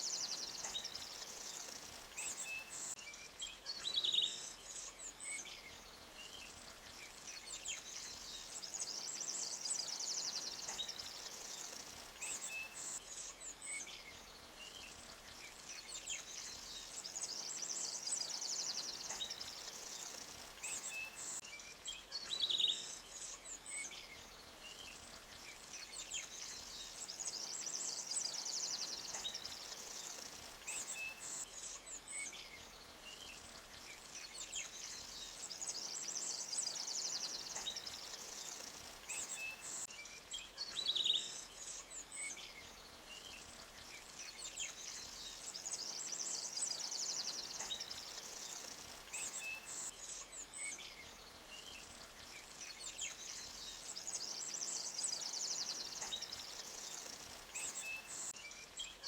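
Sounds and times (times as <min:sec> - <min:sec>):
small birds chirping: 0:00.0 - 0:59.0
soft steady hiss: 0:00.0 - 0:59.0.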